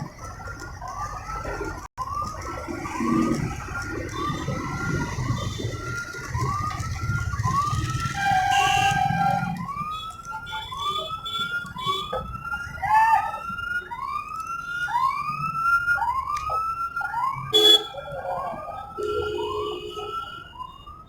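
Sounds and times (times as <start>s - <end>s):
electronic siren wailing: 0.0s - 21.0s.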